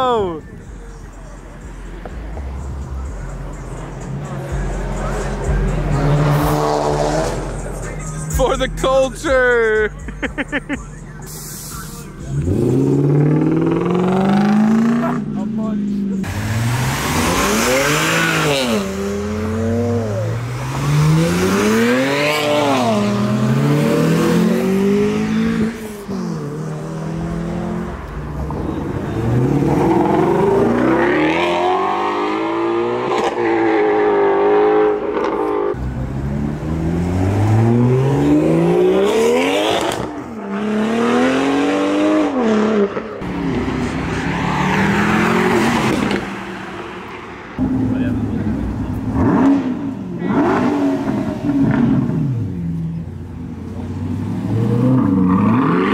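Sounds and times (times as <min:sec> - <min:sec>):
cars accelerating through gears: 0:03.4 - 0:08.3, 0:12.2 - 0:15.3, 0:16.2 - 0:53.0, 0:53.6 - 0:55.9.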